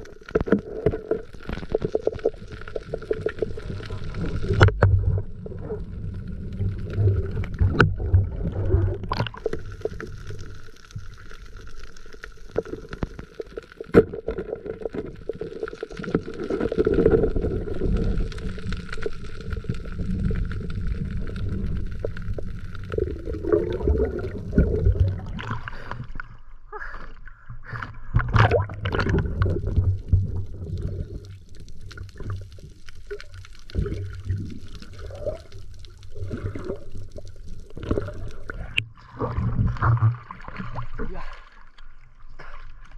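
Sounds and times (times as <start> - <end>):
clicks and knocks underwater: 0.0 - 26.5, 27.2 - 42.9
underwater gurgling rumble: 0.0 - 42.9.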